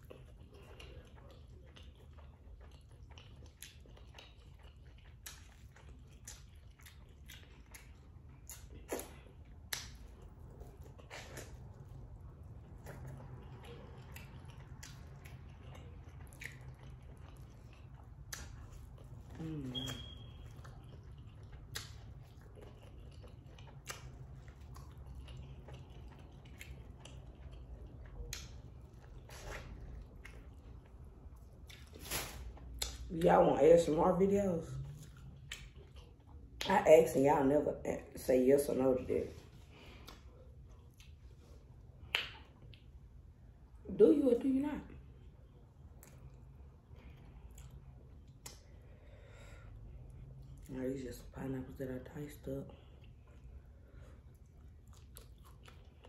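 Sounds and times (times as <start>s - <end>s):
person chewing corn: 0.0s - 33.2s, 34.7s - 36.7s, 39.5s - 43.1s, 45.0s - 50.7s, 52.7s - 56.0s
low steady hum: 0.0s - 56.0s.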